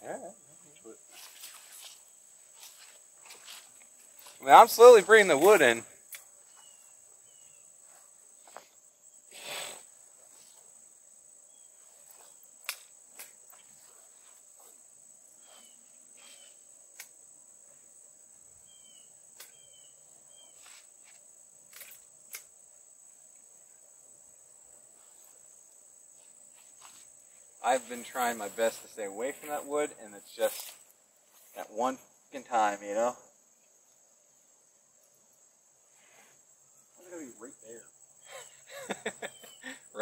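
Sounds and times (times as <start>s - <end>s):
cricket chorus trilling: 0.0s - 40.0s
rustle: 0.0s - 40.0s.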